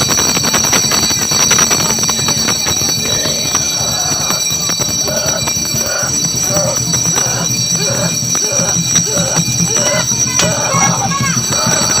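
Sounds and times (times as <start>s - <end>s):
brass handbells ringing: 0.0s - 12.0s
murmur of crowd: 0.2s - 12.0s.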